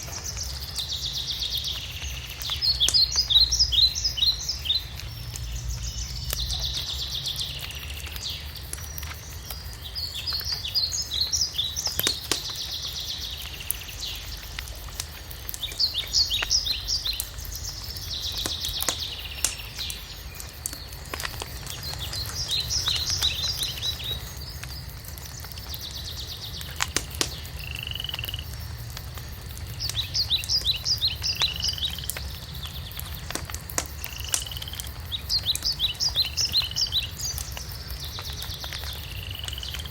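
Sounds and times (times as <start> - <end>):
songbird singing: 0.0 - 39.9
wood fire crackling: 0.0 - 39.9.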